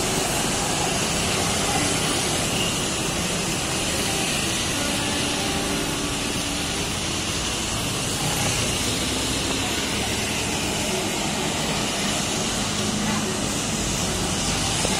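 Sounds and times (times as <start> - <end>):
motorcycles and cars passing: 0.0 - 14.9
tyres hissing on wet asphalt: 0.0 - 14.9.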